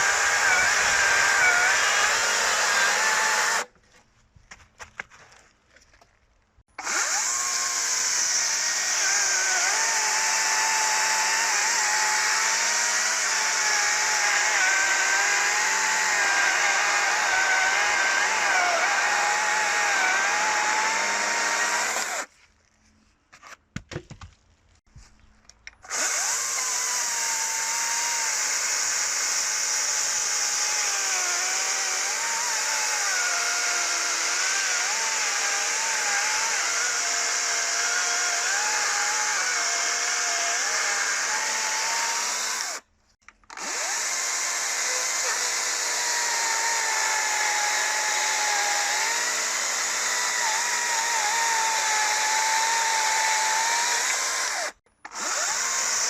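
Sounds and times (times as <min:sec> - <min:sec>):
cordless chainsaw cutting wood: 0:00.0 - 0:03.7, 0:06.8 - 0:22.3, 0:25.8 - 0:42.9, 0:43.5 - 0:56.0.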